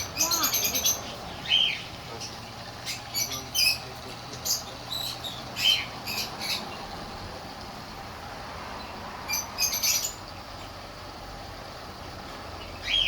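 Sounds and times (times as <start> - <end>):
birds squawking and chirping: 0.0 - 13.0.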